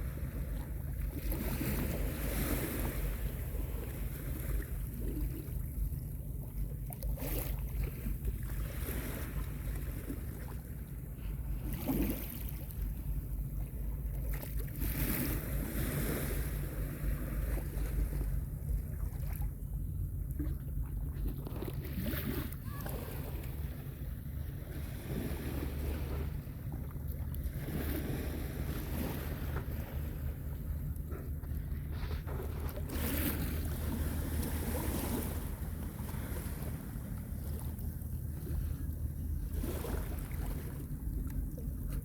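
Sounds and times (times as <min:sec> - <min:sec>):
small waves washing in: 0:00.0 - 0:19.6, 0:20.3 - 0:42.0
wind rumble on microphone: 0:00.0 - 0:42.0.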